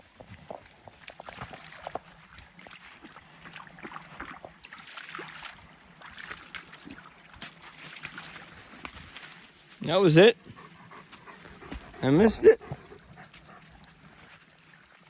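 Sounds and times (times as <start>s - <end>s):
footsteps squelching in mud: 0.0s - 15.0s.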